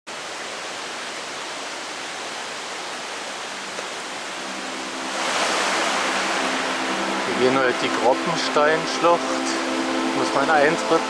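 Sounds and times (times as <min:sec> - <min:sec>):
mountain stream rushing: 0:00.1 - 0:11.0.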